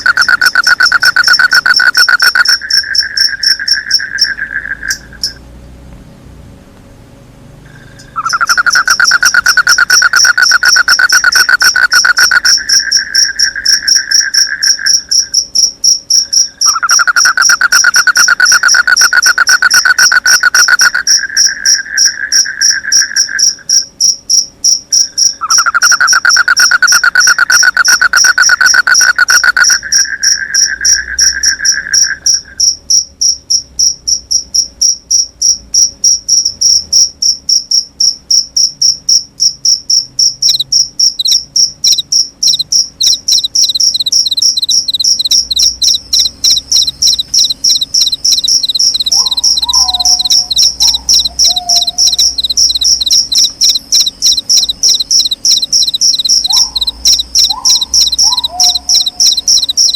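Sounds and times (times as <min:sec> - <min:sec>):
lower-pitched insect trill: 0:00.0 - 0:05.4, 0:07.6 - 0:59.9
crickets chirping: 0:00.0 - 0:05.5, 0:07.6 - 0:59.9.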